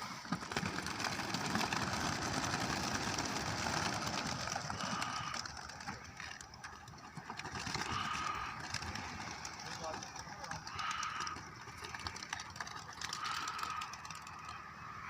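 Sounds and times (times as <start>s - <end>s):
pigeon wings fluttering: 0.0s - 15.0s.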